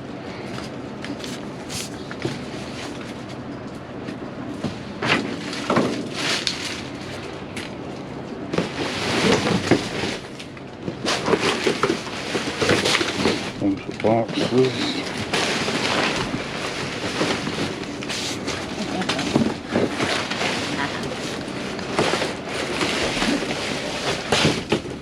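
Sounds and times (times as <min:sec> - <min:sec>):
trash bags rustling and crinkling: 0:04.5 - 0:25.0.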